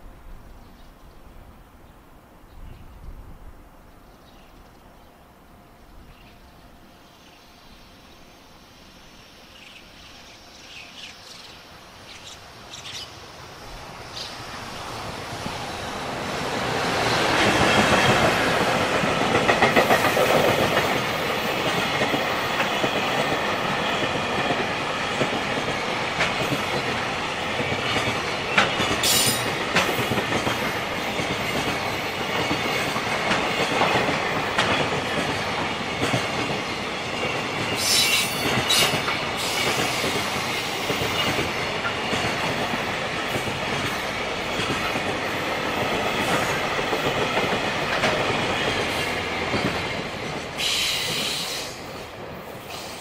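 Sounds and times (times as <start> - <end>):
train passing with rumble: 0.0 - 53.0.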